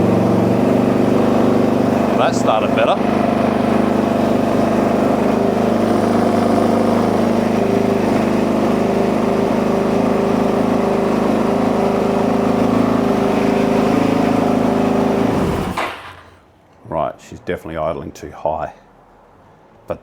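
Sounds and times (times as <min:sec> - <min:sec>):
motorcycle engine idling high: 0:00.0 - 0:16.4.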